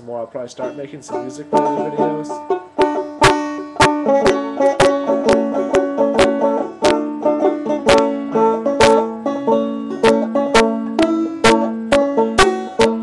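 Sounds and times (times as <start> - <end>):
banjo picking: 0.0 - 13.0.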